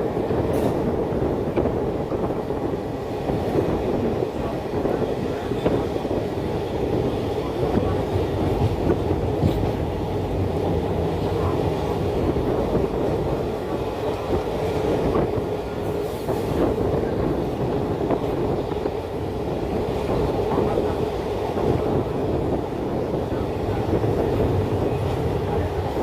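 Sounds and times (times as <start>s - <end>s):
train coaches rumbling: 0.0s - 26.0s.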